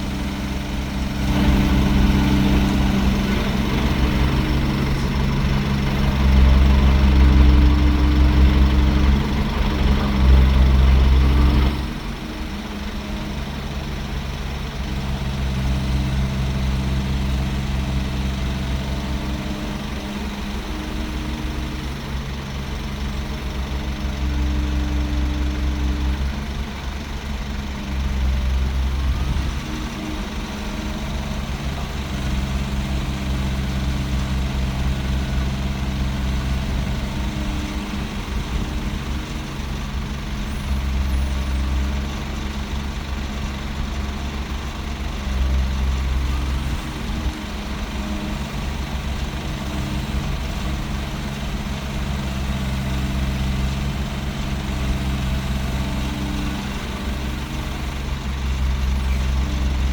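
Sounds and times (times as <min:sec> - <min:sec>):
heavy diesel engine rumbling: 0:00.0 - 0:59.9.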